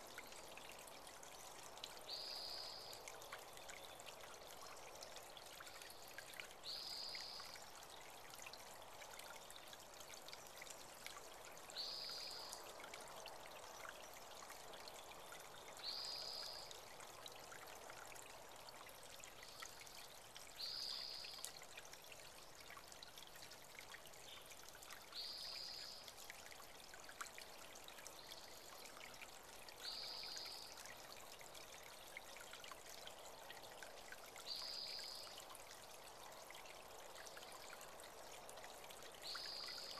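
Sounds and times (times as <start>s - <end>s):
creek trickling: 0.0s - 39.9s.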